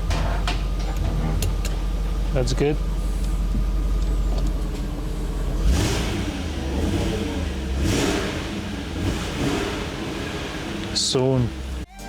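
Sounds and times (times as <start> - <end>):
car engine revving: 0.0 - 11.9.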